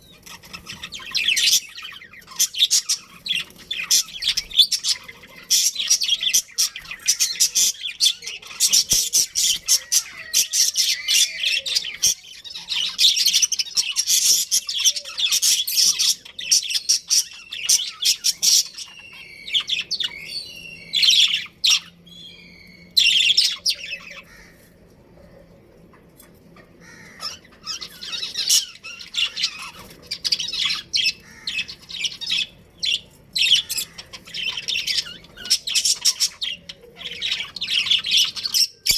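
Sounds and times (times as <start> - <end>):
budgerigars chirping: 0.0 - 24.6, 26.7 - 38.9.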